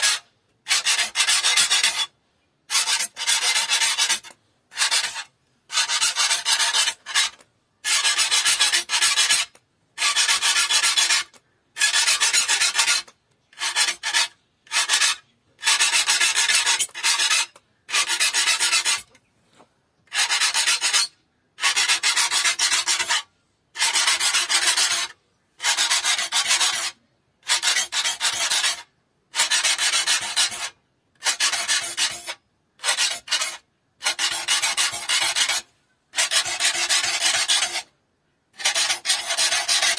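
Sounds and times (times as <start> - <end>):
file rasping on saw teeth: 0.0 - 19.2, 20.1 - 37.9, 38.6 - 39.9.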